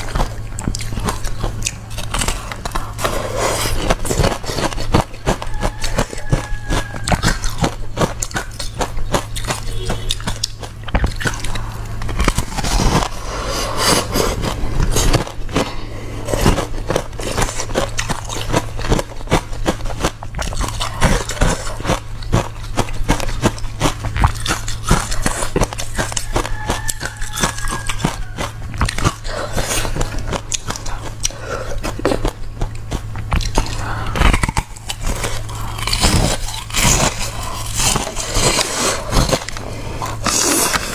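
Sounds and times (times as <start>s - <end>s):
ice crunching while chewed: 0.0s - 40.9s.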